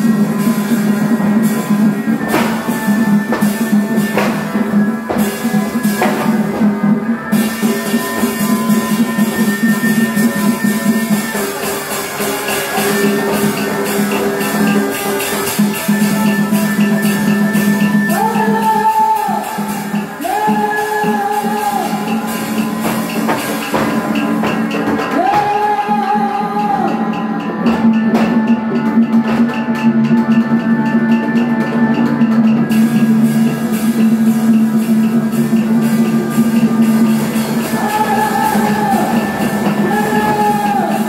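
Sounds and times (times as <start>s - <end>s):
drum and percussion strokes: 0.0s - 41.0s
long held high notes: 0.0s - 41.0s.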